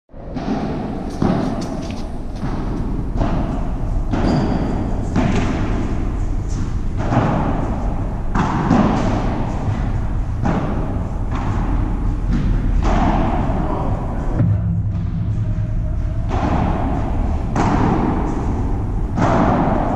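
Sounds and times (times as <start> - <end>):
steady low hum: 0.1 - 19.9
ball struck by paddles: 0.3 - 15.5, 16.2 - 19.9
ball bouncing off walls: 0.3 - 19.9.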